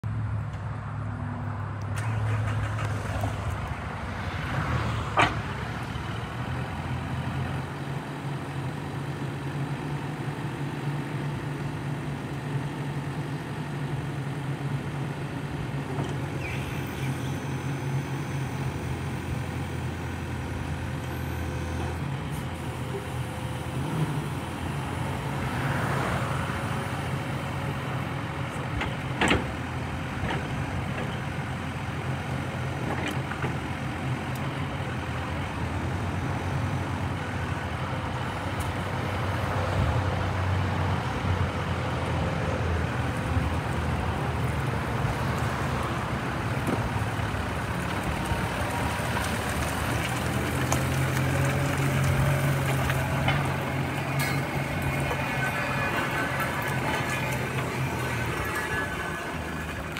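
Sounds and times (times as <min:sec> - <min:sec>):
forklift engine running: 0:01.8 - 0:59.9.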